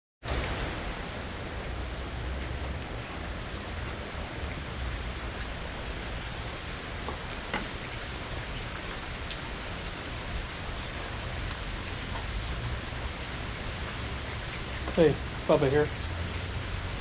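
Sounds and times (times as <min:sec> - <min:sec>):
steady rain falling: 0:00.2 - 0:17.0.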